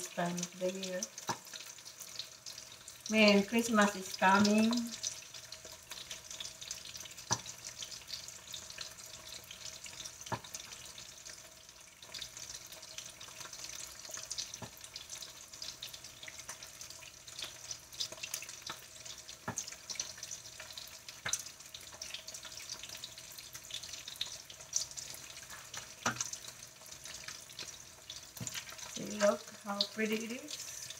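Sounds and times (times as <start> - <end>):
meat sizzling in a frying pan: 0.0 - 30.9.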